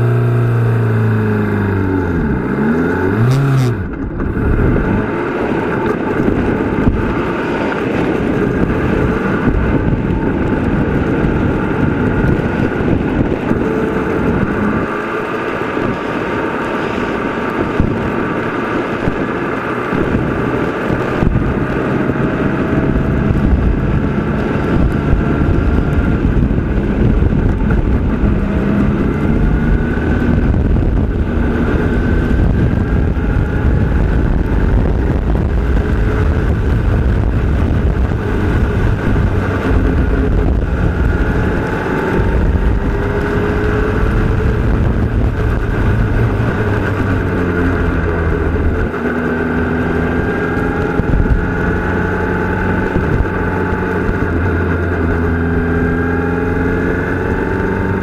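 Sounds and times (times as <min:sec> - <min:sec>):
racing car engine at speed: 0:00.0 - 0:58.0.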